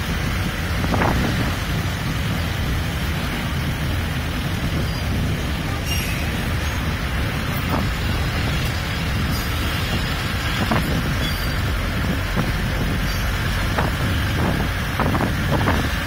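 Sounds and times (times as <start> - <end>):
road traffic rumble: 0.0 - 16.0
wind noise on microphone: 0.0 - 16.0.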